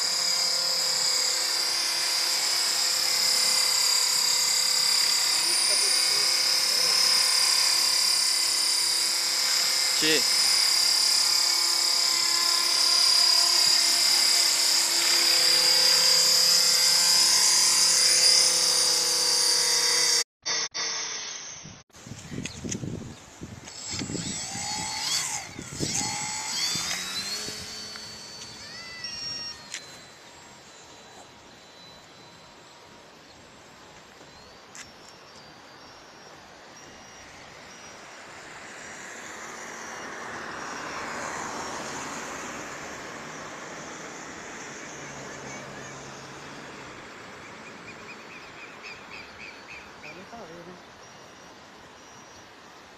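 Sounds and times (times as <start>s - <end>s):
small airplane engine: 0.0s - 21.3s, 23.6s - 52.6s
model helicopter rotor whine: 0.0s - 52.9s.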